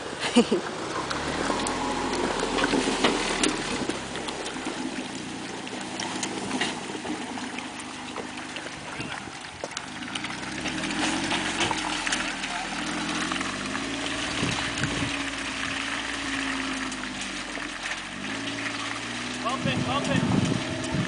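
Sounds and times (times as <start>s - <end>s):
car engine pulling away: 0.0s - 21.0s
tyres crunching through snow: 0.4s - 21.0s.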